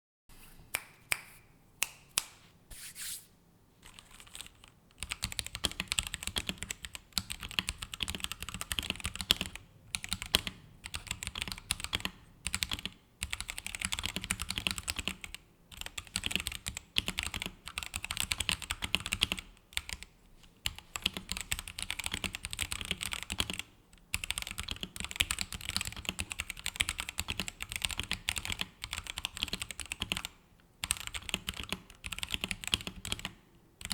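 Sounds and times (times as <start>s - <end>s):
typing on mechanical keyboard: 3.9s - 33.9s.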